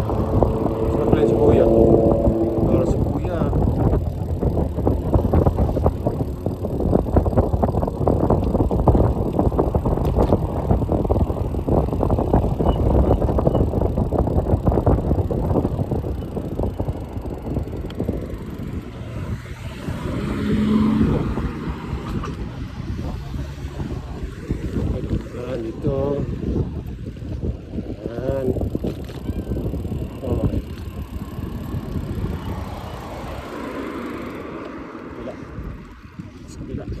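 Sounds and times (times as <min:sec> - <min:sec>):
rattling road noise from bike: 0:00.0 - 0:37.0
wind buffeting microphone: 0:00.0 - 0:37.0.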